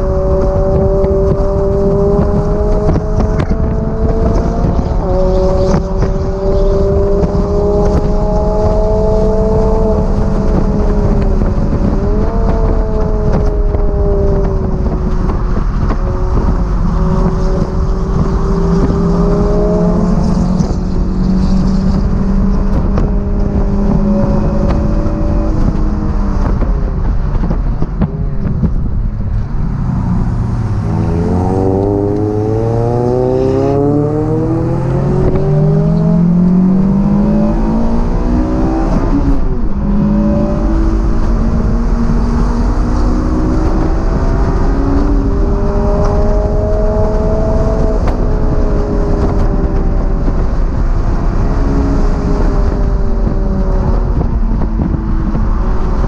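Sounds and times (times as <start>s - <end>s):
car engine revving: 0.0s - 56.0s
wind rush: 0.0s - 56.0s.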